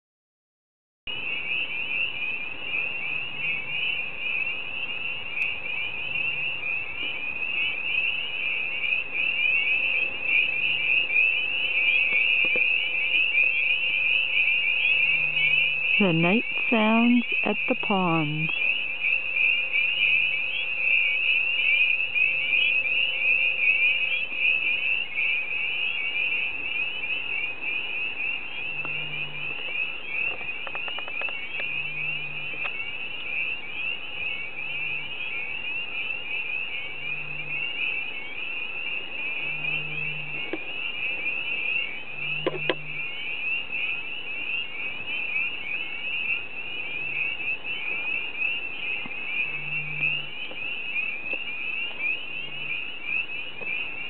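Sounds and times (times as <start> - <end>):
spring peepers chorus: 1.1 - 54.0.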